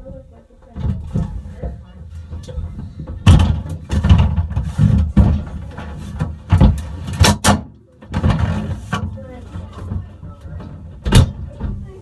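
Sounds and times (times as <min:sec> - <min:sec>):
sharp knocks and thuds: 0:00.8 - 0:11.9.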